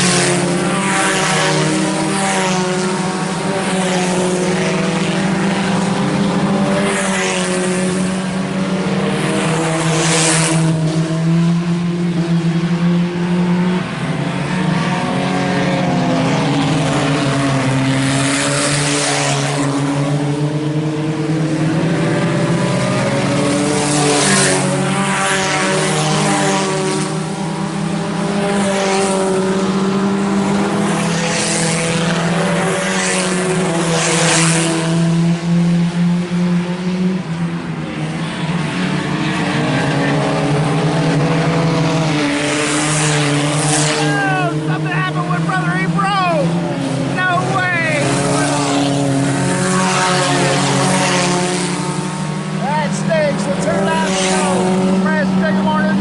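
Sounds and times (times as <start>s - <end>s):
cars passing close by: 0.0s - 56.0s
race car engines revving: 0.0s - 56.0s.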